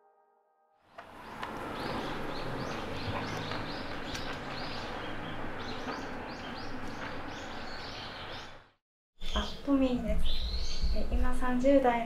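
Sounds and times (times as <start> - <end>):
birds chirping: 1.0 - 11.6.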